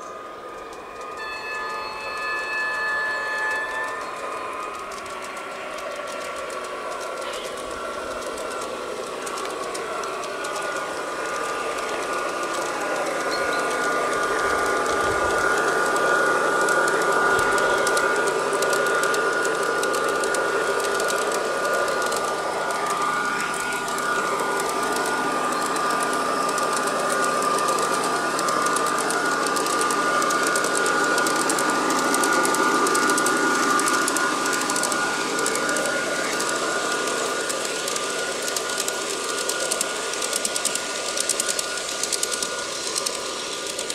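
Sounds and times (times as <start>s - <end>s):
model train whine: 0.0s - 43.9s.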